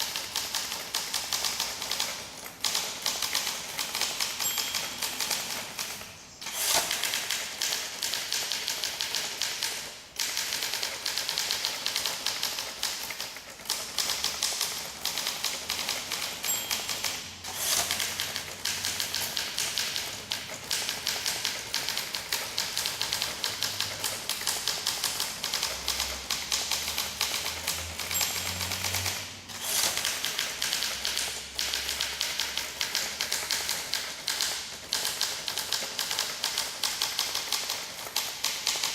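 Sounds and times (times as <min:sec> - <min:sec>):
typewriter key strikes: 0:00.0 - 0:38.9.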